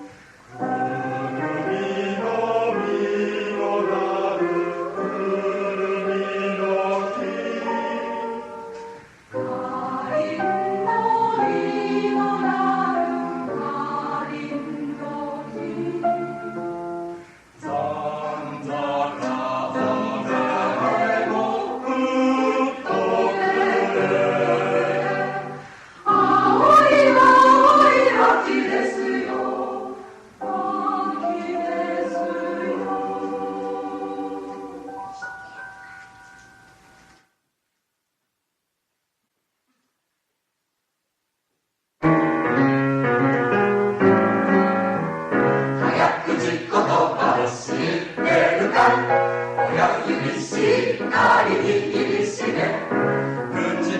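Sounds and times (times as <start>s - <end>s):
mixed choir singing: 0.0s - 35.4s, 45.7s - 53.9s.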